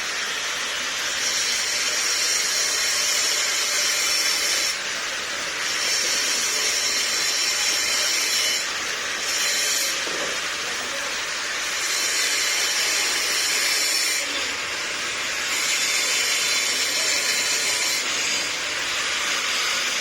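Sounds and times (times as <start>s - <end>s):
electric arc welding hiss: 0.0s - 20.0s.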